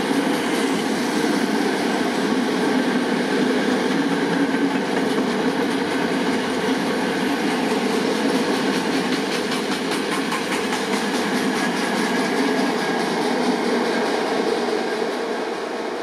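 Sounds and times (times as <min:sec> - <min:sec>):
freight train rumbling past: 0:00.0 - 0:16.0
train wheels clattering: 0:02.8 - 0:16.0.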